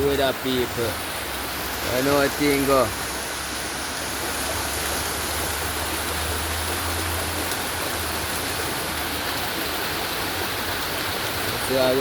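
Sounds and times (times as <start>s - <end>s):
heavy rain: 0.0s - 12.0s
running floodwater: 0.0s - 12.0s.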